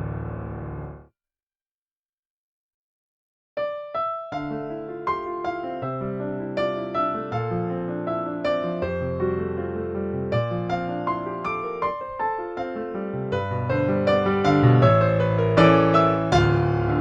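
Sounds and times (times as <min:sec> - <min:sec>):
piano melody: 0:00.0 - 0:01.0, 0:03.6 - 0:17.0.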